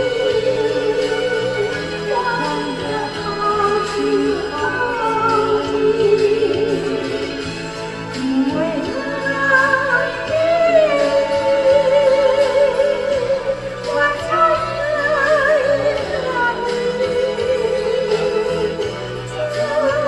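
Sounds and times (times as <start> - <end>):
instrumental accompaniment: 0.0 - 20.0
person singing long notes: 0.0 - 20.0.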